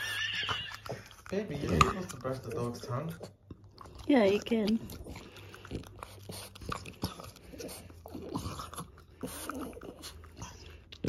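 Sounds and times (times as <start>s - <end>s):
dog throaty sounds: 0.0s - 11.0s
dog breathing: 0.9s - 11.0s.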